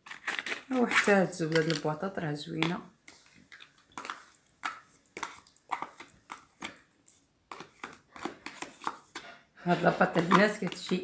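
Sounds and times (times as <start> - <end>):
butter wrapper rustling: 0.0 - 2.1, 3.0 - 11.0.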